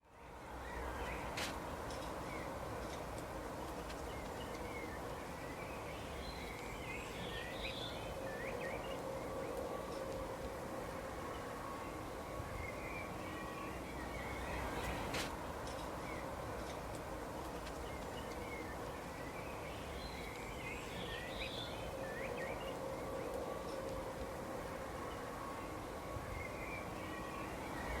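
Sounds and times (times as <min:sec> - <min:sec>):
faint constant hum: 0:00.0 - 0:28.0
steady background noise: 0:00.0 - 0:28.0.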